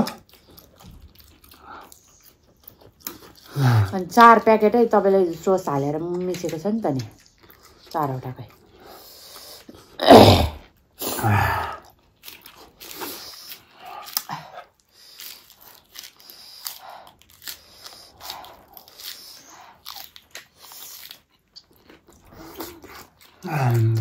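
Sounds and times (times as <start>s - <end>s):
crunching and chewing food: 0.0s - 10.0s, 10.6s - 24.0s.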